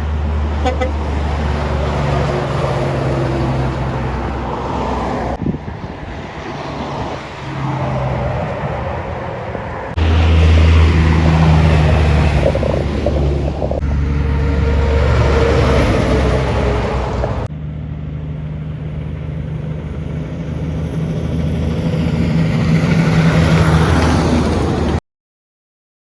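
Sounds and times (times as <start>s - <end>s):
diesel trucks driving past: 0.0s - 25.0s
tyre and road noise: 0.0s - 25.0s.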